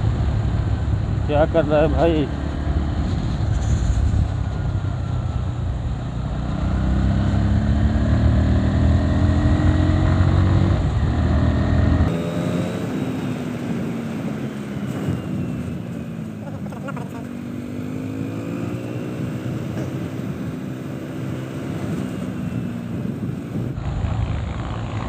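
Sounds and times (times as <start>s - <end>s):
wind rumble on microphone: 0.0s - 16.4s, 18.3s - 25.0s
motorcycle engine running: 0.0s - 25.0s.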